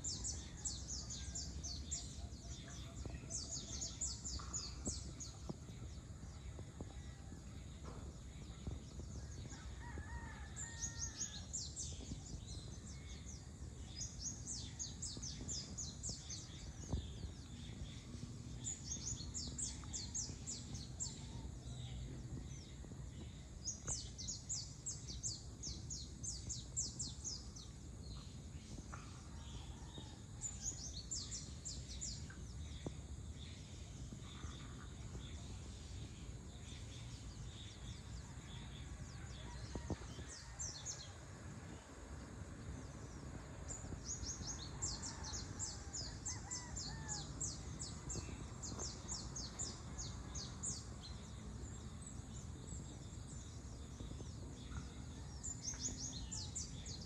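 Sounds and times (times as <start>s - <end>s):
bird singing: 0.0s - 57.0s
low steady background rumble: 0.0s - 57.0s.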